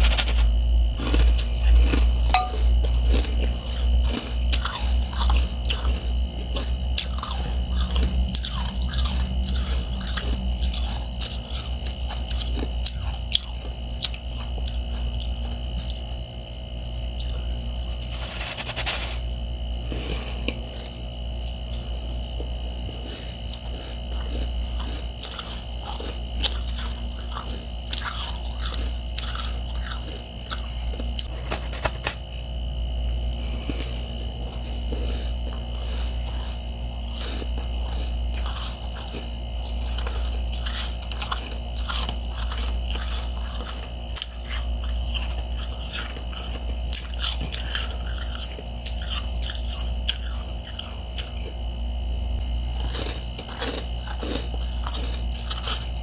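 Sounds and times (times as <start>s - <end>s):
chewing crunchy frost: 0.0s - 56.0s
steady low hum: 0.0s - 56.0s.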